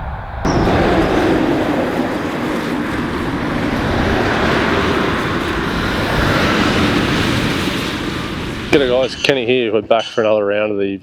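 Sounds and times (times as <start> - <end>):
dirt bike engines running: 0.5 - 9.4.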